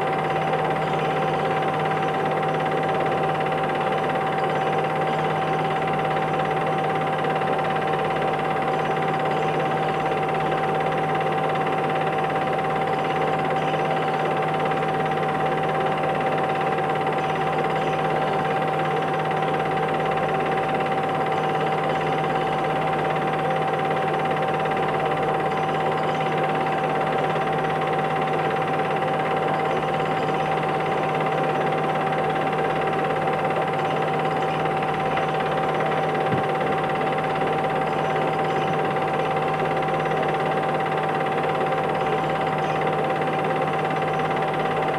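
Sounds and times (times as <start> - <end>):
film projector whirring: 0.0 - 44.9.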